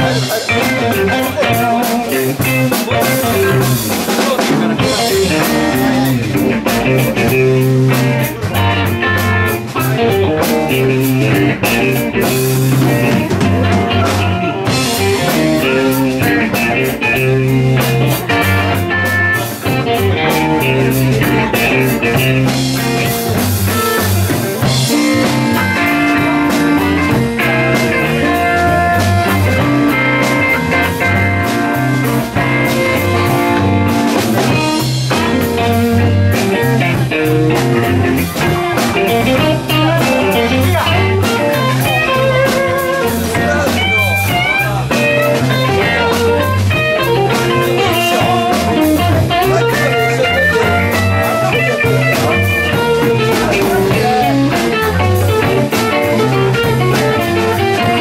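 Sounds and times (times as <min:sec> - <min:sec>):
drum kit: 0:00.0 - 0:58.0
electric bass line: 0:00.0 - 0:58.0
electric guitars: 0:00.0 - 0:58.0.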